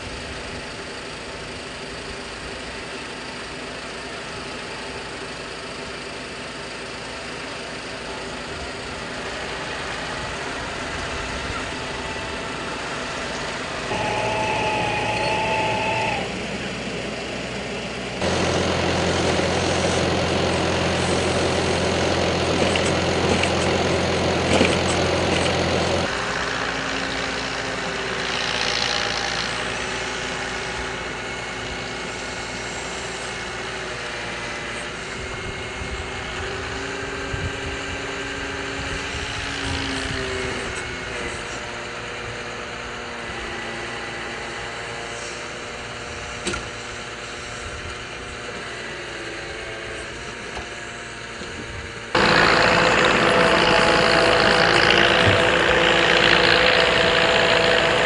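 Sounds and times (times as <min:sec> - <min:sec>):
tractor engine drone: 0:00.0 - 0:58.0.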